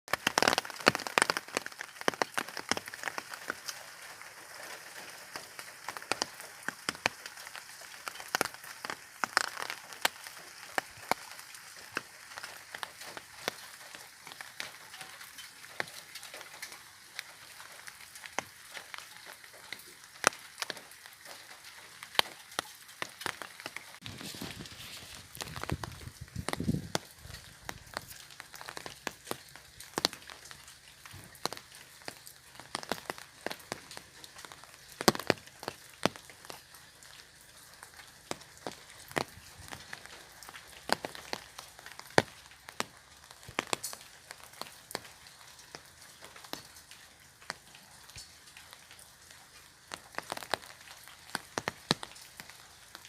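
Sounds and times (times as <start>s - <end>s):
raindrops tapping on umbrella: 0.1s - 53.0s
soft hiss of rain: 0.1s - 53.0s.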